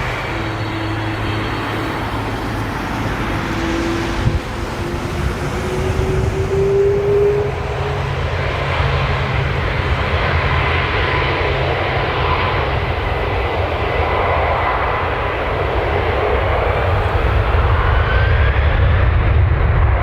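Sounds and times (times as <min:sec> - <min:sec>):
jet engines rushing: 0:00.0 - 0:20.0
rising engine whine: 0:00.0 - 0:20.0.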